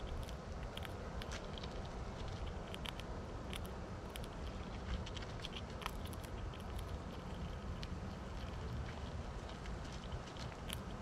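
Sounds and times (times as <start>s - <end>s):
squirrels gnawing and scrabbling: 0.0s - 11.0s
steady low rumble: 0.0s - 11.0s.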